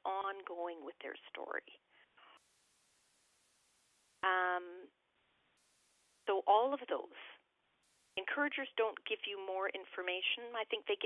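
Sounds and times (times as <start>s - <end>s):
faint steady hiss: 1.6s - 10.7s.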